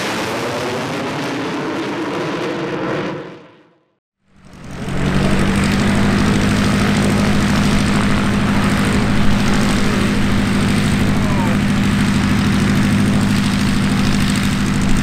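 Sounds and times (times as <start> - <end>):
propeller plane engine running: 0.0 - 3.5, 4.2 - 15.0.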